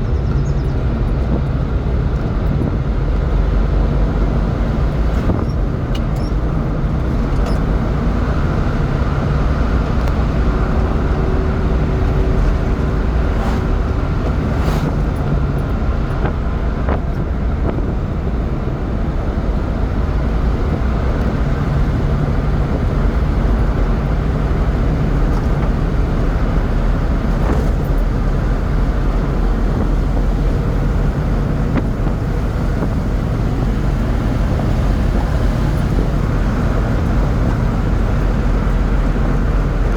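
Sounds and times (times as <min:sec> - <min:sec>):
road and wind noise: 0:00.0 - 0:39.9
truck engine drone: 0:00.0 - 0:39.9.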